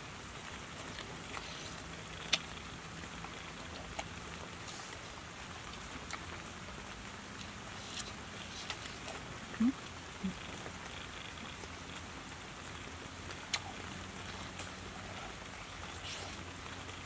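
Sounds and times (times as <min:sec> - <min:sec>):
steady low hiss: 0:00.0 - 0:17.0
lip smacks and chewing clicks: 0:00.6 - 0:06.4, 0:07.4 - 0:12.0, 0:12.7 - 0:17.0.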